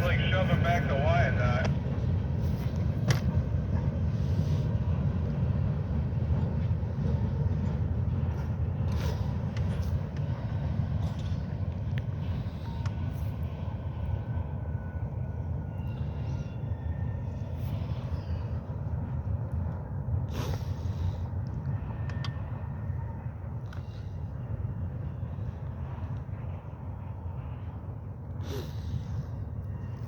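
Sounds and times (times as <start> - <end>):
freight train rumbling: 0.0 - 30.0.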